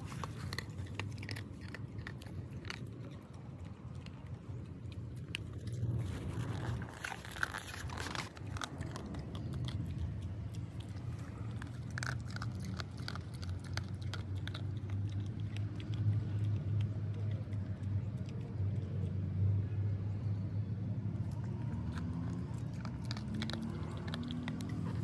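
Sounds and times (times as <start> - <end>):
dog crunching dry kibble: 0.0 - 19.6, 21.0 - 25.0
steady low rumble: 0.0 - 25.0.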